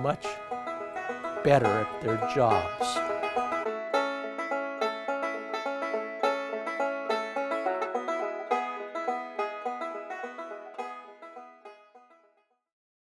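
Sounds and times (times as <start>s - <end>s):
banjo-like plucked strings music: 0.0s - 12.5s.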